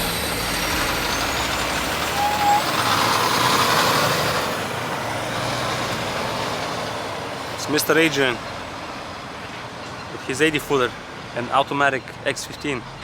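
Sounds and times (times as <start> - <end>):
semi-truck engine driving off: 0.0 - 11.4.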